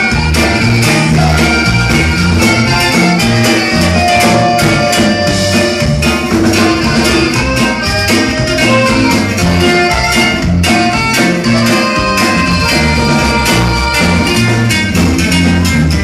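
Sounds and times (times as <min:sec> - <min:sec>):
live band with accordion: 0:00.0 - 0:16.0.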